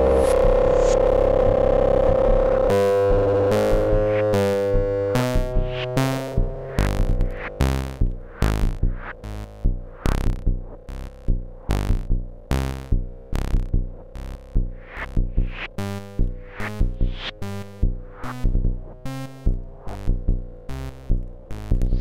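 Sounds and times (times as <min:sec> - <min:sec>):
synthesizer drone note: 0:00.0 - 0:11.2, 0:14.2 - 0:22.0
deep low thumps: 0:00.0 - 0:22.0
plucked synthesizer notes: 0:00.0 - 0:22.0.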